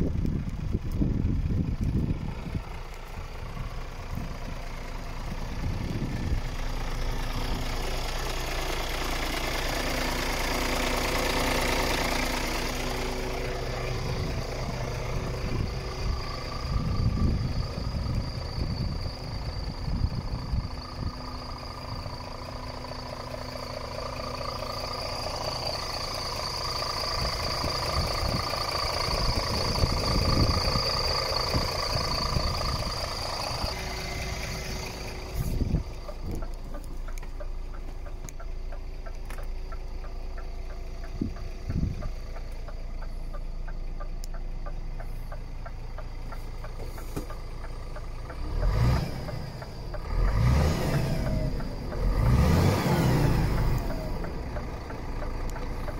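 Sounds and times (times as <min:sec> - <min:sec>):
diesel truck engine idling: 0:00.0 - 0:55.9.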